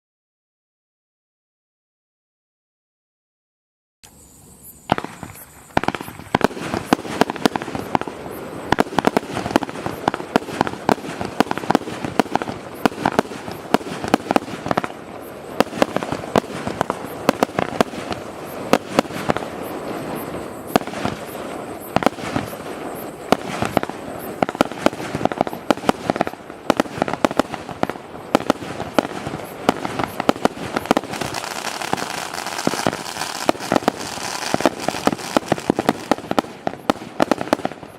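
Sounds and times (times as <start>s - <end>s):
fireworks bangs and crackles: 4.9s - 37.9s.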